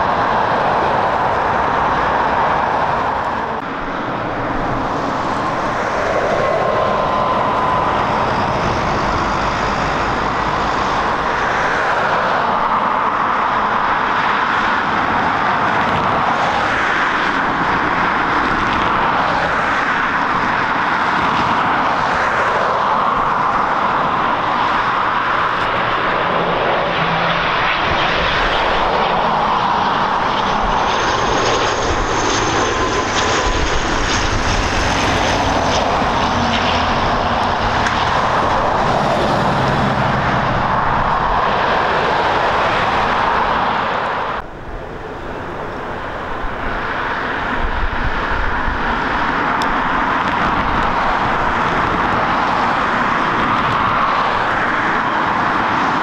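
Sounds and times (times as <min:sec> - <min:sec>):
high engine whine: 0:00.0 - 0:56.0
turboprop engines running: 0:00.0 - 0:56.0.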